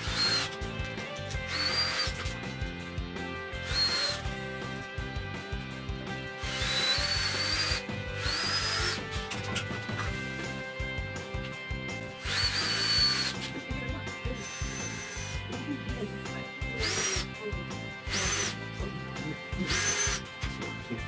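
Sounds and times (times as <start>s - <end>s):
background music: 0.0s - 21.0s
power drill whining: 0.0s - 21.0s.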